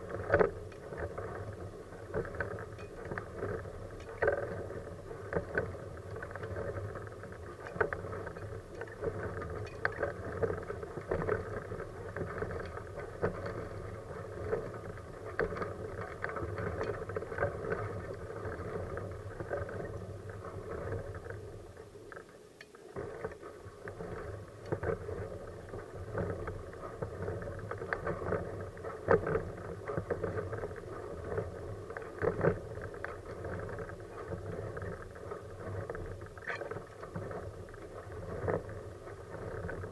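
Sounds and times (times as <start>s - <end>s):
small rattles and clicks: 0.0s - 39.9s
wheelchair rolling on asphalt: 0.0s - 39.9s.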